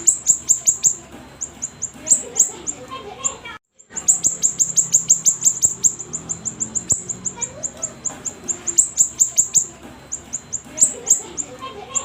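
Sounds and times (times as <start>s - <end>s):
songbird rapid falling chirps: 0.0s - 12.0s.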